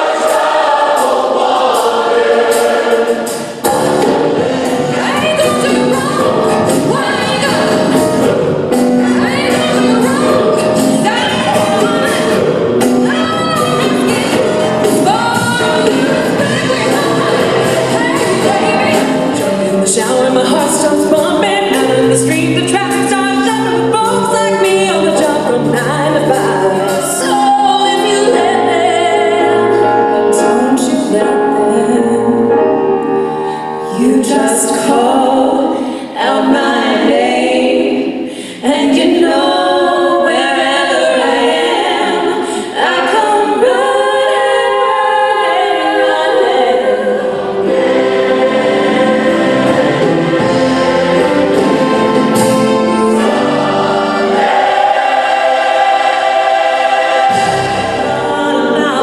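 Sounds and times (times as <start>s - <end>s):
women singing: 0.0s - 4.0s, 4.9s - 8.4s, 9.1s - 12.4s, 13.0s - 32.6s, 33.9s - 52.3s, 52.9s - 59.0s
piano and band: 0.0s - 59.0s.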